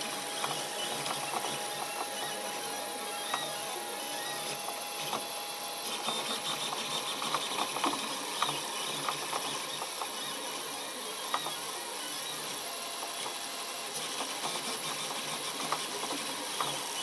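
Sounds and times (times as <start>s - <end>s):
printer hiss and hum: 0.0s - 17.0s
stepper motor movement: 0.0s - 17.0s.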